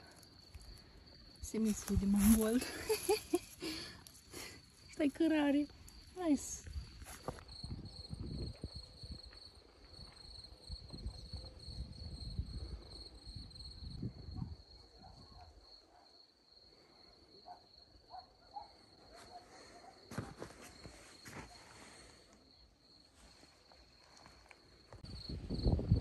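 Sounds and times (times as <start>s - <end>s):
cricket trilling: 0.0s - 26.0s.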